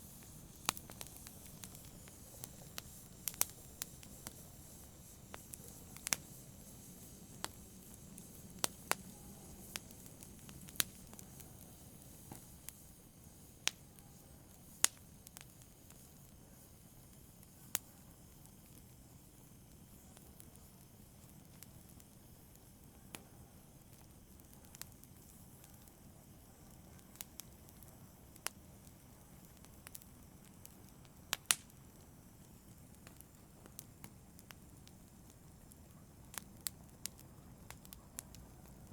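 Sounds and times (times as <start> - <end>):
faint hiss of burning: 0.0 - 38.9
wood fire crackling: 0.0 - 38.9.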